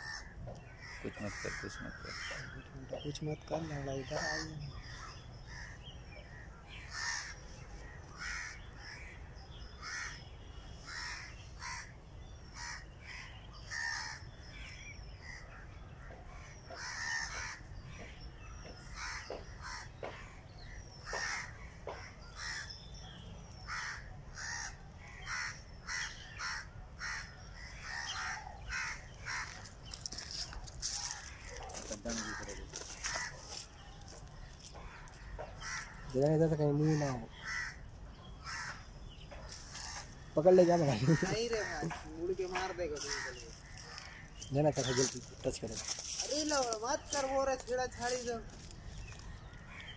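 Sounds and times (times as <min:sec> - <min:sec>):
birds calling: 0:00.0 - 0:49.9.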